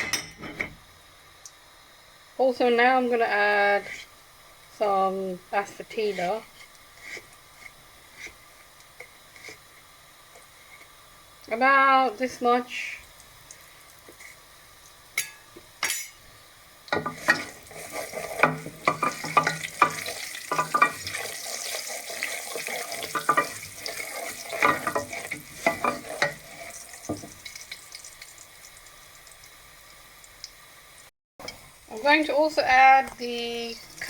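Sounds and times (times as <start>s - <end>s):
seeds sizzling in hot oil: 1.0s - 34.0s.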